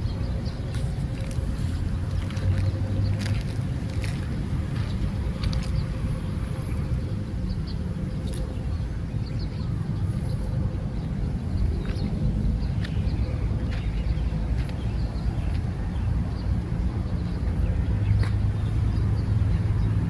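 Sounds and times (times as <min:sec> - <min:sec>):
low rumble outdoors: 0:00.0 - 0:20.0.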